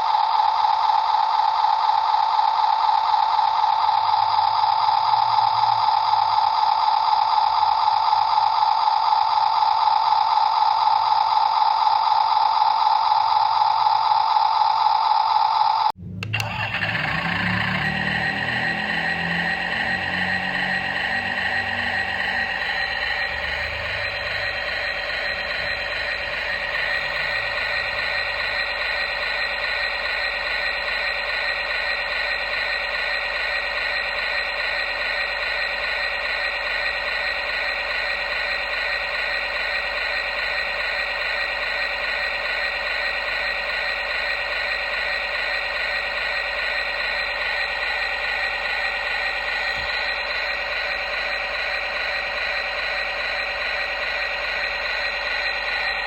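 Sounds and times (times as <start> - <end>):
toy electric motor whirring: 0.0 - 56.0.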